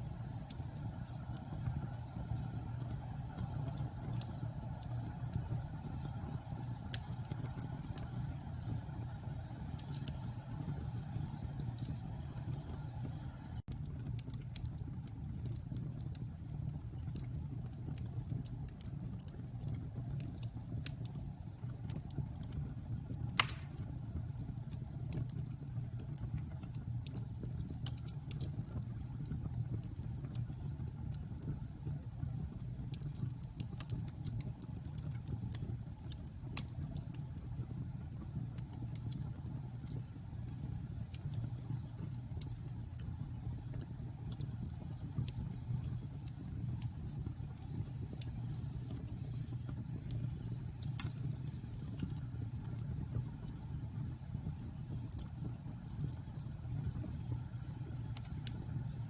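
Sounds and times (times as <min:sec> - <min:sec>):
bonfire flames rumbling: 0:00.0 - 0:59.0
fire crackling and popping: 0:00.0 - 0:59.0.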